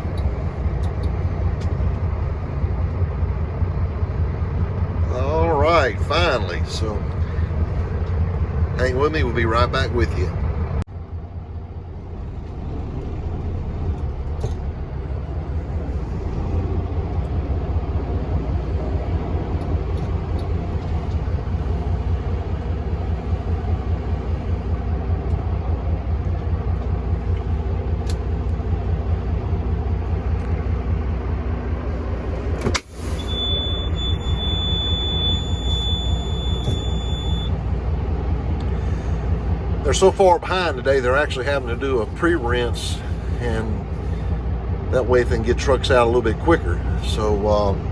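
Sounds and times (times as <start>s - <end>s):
truck engine rumbling: 0.0s - 47.9s.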